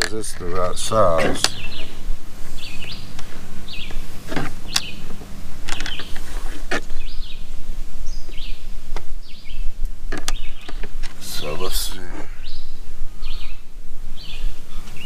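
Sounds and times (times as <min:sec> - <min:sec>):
steady low hum: 0:00.0 - 0:15.0
small bird chirping: 0:00.6 - 0:15.0.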